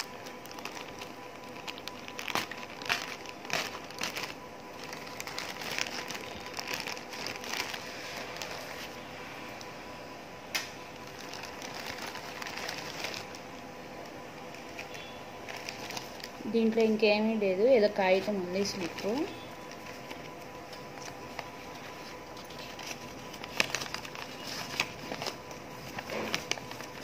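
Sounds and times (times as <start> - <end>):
plastic mailer crinkling: 0.0 - 9.2, 10.9 - 27.0
faint steady hum: 0.0 - 27.0.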